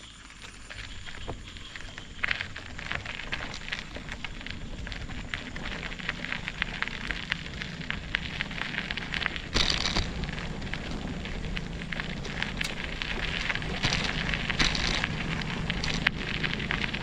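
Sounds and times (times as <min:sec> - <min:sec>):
bike rattling over rough ground: 0:00.0 - 0:17.0
low rumble: 0:00.6 - 0:17.0.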